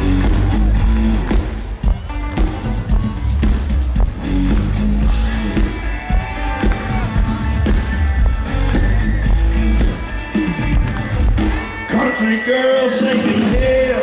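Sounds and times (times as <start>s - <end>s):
electric bass: 0.0s - 11.9s
drum kit: 0.0s - 12.3s, 12.9s - 14.0s.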